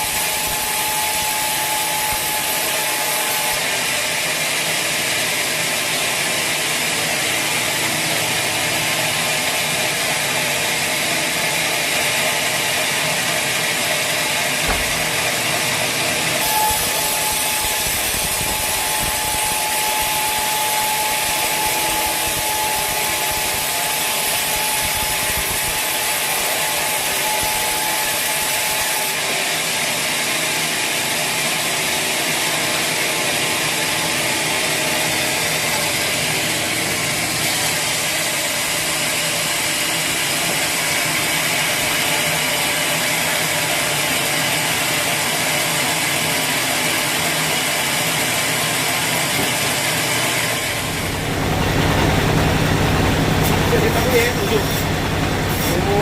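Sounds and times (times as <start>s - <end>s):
high saw whine: 0.0s - 56.0s
saw cutting through log: 0.0s - 56.0s.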